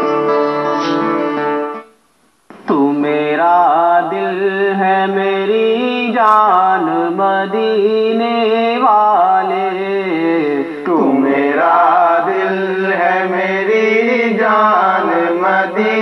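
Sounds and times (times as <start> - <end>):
man singing unaccompanied: 2.6 - 16.0.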